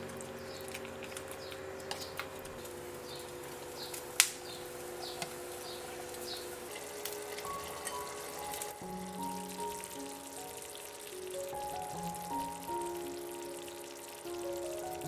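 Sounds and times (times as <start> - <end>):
soft background music: 2.5 - 15.0.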